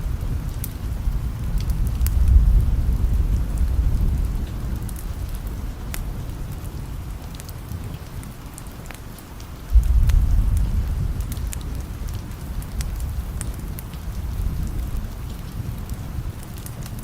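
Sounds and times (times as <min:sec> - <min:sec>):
low rolling thunder: 0:00.0 - 0:07.2, 0:09.7 - 0:16.9
rain hiss: 0:00.0 - 0:17.0.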